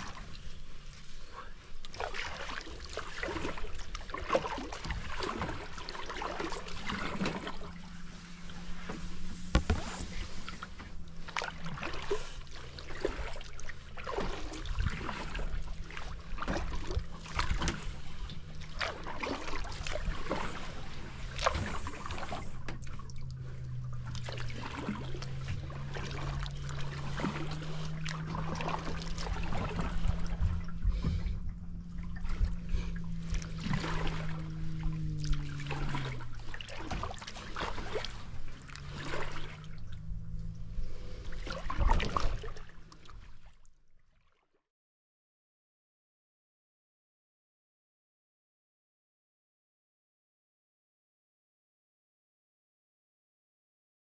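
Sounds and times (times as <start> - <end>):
boat motor humming: 0.0 - 43.5
water lapping against hull: 0.0 - 44.6.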